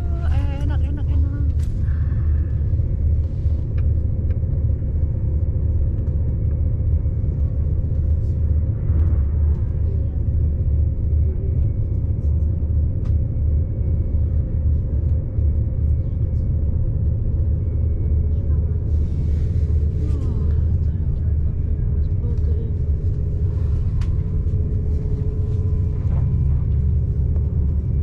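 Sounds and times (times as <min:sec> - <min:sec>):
train rumbling inside carriage: 0:00.0 - 0:28.0.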